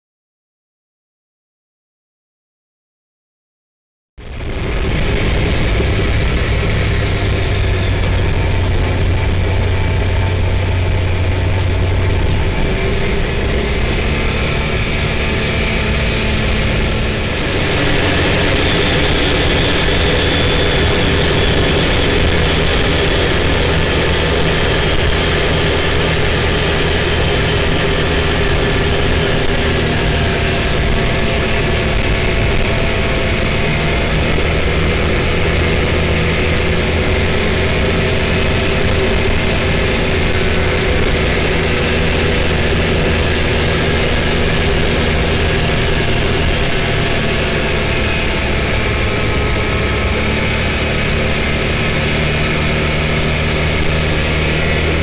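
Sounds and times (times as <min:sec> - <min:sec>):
engine running at cruise: 0:04.2 - 0:55.0.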